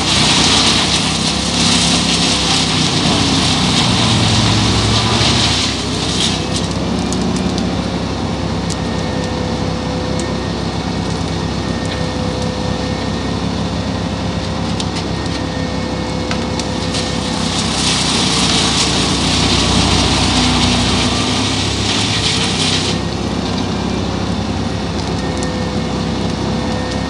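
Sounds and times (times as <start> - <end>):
truck engine running: 0.0 - 27.0
wood chipper crunching branches: 0.0 - 27.0.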